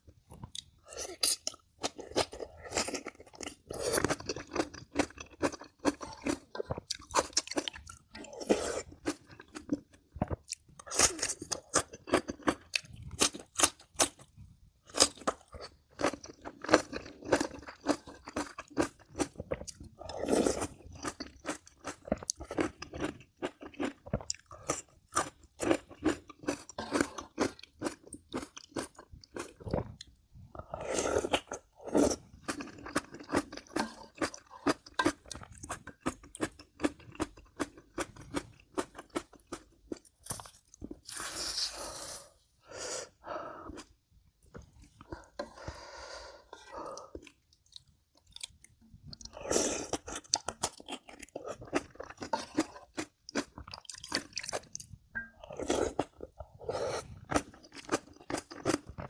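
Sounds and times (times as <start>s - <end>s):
person chewing with crunches: 0.3s - 42.4s, 43.1s - 59.0s.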